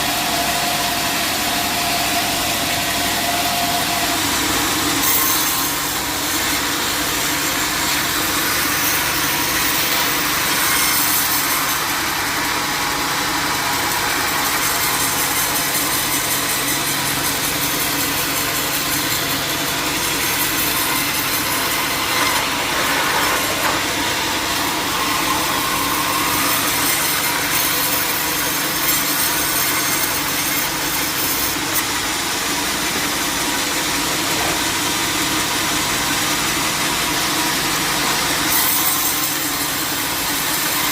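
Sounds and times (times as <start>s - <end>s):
band saw blade cutting wood: 0.0s - 32.6s, 38.0s - 40.9s
sawmill motor hum: 0.0s - 40.9s.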